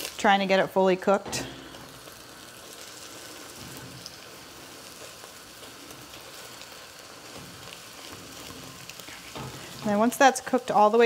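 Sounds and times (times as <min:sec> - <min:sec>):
eggs sizzling in oil: 0:00.0 - 0:11.0.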